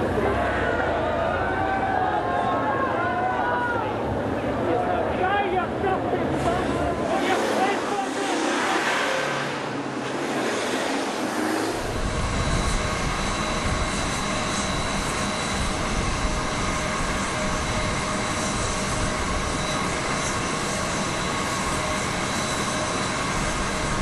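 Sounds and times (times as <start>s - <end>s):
jet engines running: 3.8s - 24.0s.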